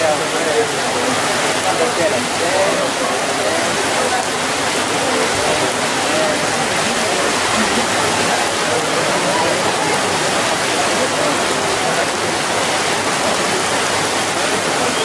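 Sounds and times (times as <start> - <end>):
faint voices: 0.0 - 15.0
heavy rain pouring: 0.0 - 15.0.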